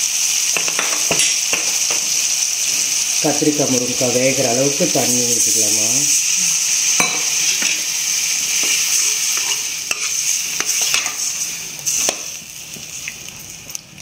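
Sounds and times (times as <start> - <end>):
water sizzling in hot pan: 0.0 - 14.0.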